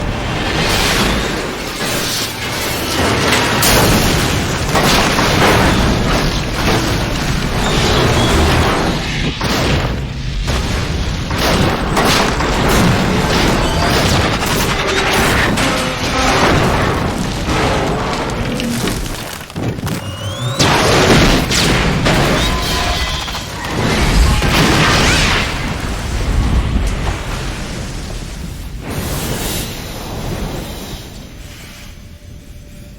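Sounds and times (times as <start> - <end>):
train crashing and exploding: 0.0 - 31.4.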